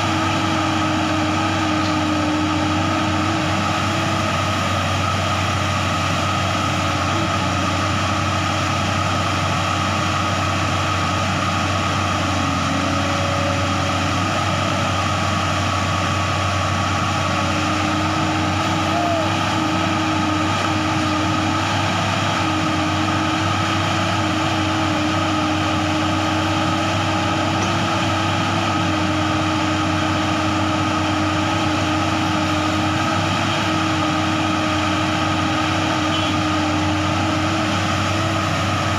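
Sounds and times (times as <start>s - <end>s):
excavator diesel engine drone: 0.0s - 38.9s.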